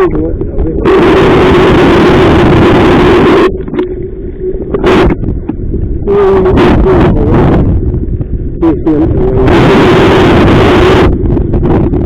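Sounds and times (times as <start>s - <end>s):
steady hum: 0.0s - 12.0s
wind buffeting microphone: 0.0s - 12.0s.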